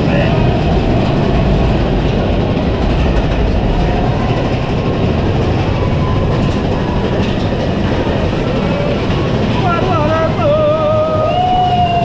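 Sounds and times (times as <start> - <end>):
roller coaster wheels rumbling: 0.0 - 12.0.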